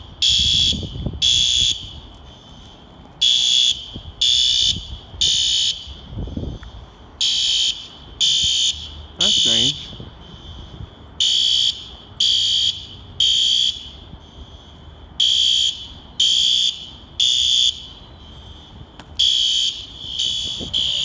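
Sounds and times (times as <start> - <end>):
fire alarm horn blasts: 0.0 - 21.0.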